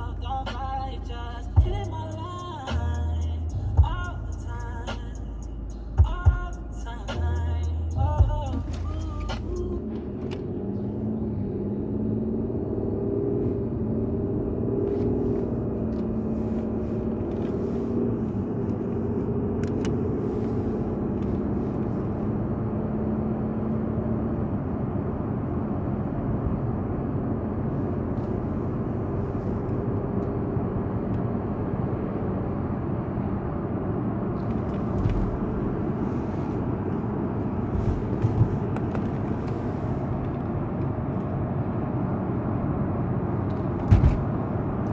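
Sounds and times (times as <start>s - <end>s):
car engine rumble inside cabin: 0.0s - 44.9s.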